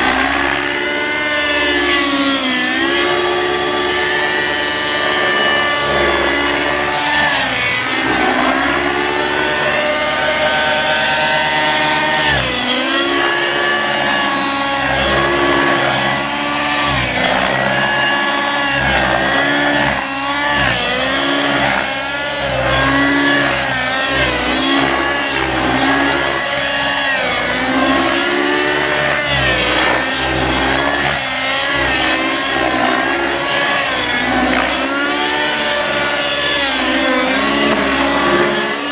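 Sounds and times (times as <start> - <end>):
model helicopter engine and rotor: 0.0 - 38.9.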